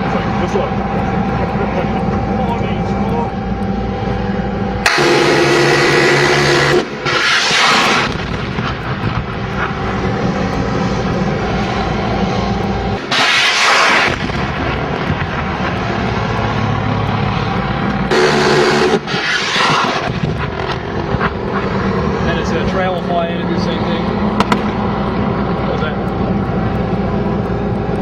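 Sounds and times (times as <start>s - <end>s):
aircraft engine drone: 0.0s - 28.0s.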